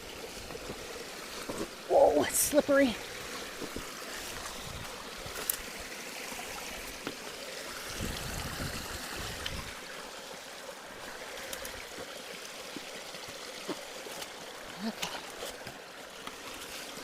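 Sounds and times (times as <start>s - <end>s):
water rushing from culvert: 0.0s - 17.0s.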